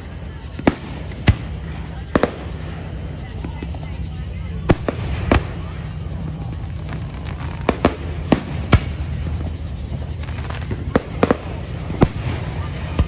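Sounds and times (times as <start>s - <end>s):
fireworks bangs and cracks: 0.3s - 13.0s.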